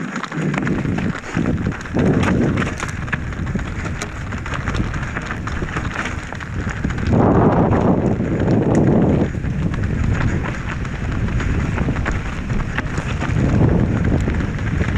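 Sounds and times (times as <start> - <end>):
bike clattering and rattling: 0.0 - 14.9
tyres crunching over stones: 0.0 - 14.9
wind buffeting microphone: 0.0 - 14.9.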